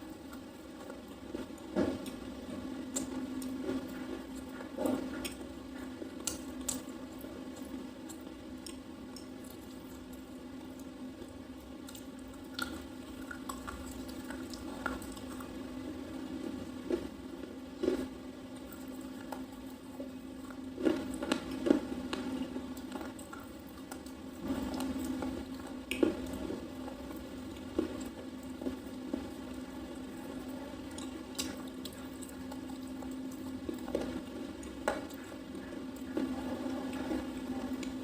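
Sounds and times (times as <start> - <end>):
person chewing crunchy bar: 0.0 - 38.0
steady low hum: 0.0 - 38.0.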